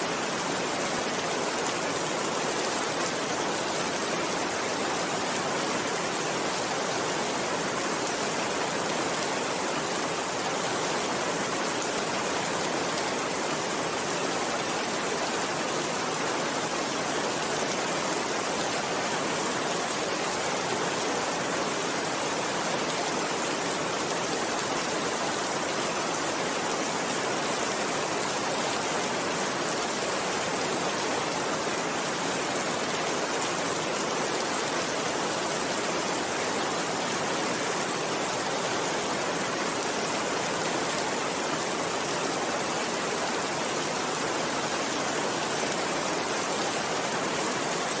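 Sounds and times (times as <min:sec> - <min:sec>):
steady rainfall: 0:00.0 - 0:48.0.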